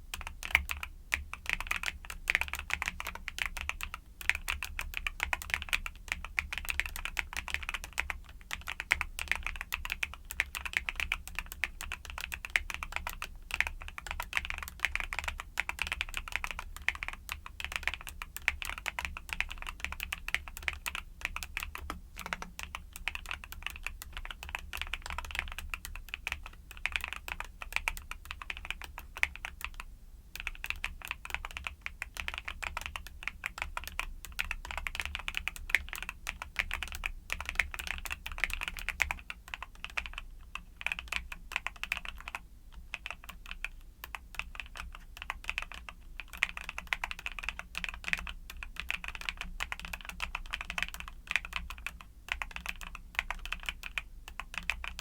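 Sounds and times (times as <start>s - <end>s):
mechanical keyboard typing: 0.1s - 55.0s.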